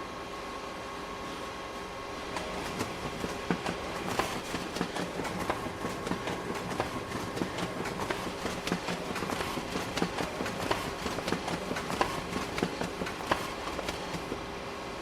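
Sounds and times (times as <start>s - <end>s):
photocopier hum: 1.3s - 15.0s
photocopier clacking: 2.3s - 14.4s.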